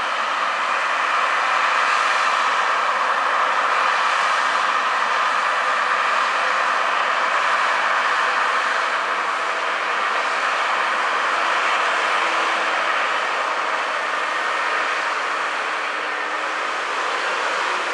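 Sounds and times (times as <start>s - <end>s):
truck rushing noise: 0.0s - 17.9s.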